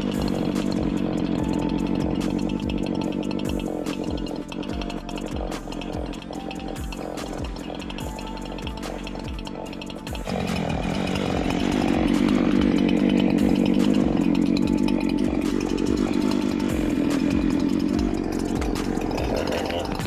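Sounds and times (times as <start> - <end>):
chainsaw cutting log: 0.0 - 20.0.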